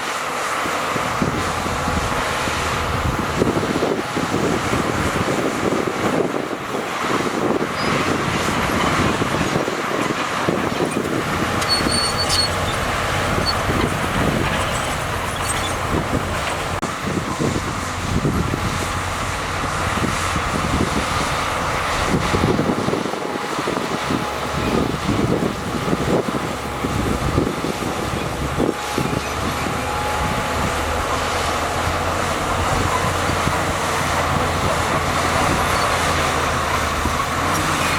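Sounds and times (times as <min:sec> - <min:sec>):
bulldozer engine running: 0:00.0 - 0:37.9.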